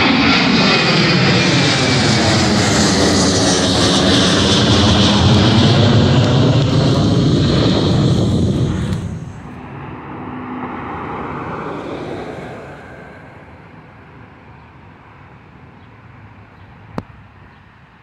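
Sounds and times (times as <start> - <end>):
airplane engines roaring past: 0.0 - 18.0.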